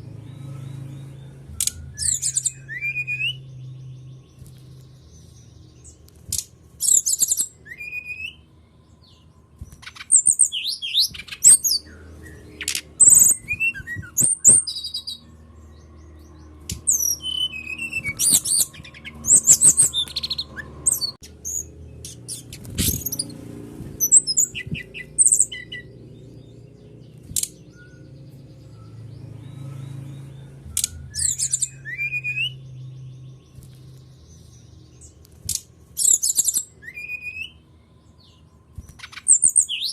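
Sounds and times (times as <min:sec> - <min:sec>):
bird singing whistles and chirps: 0:00.1 - 0:39.9.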